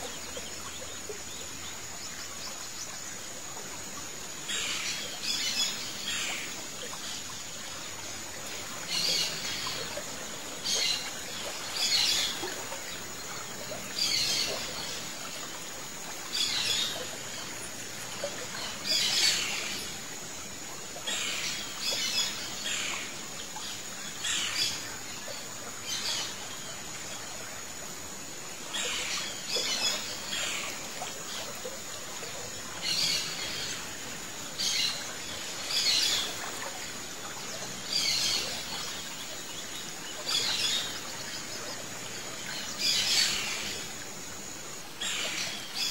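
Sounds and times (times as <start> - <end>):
steady background hiss: 0.0 - 45.9.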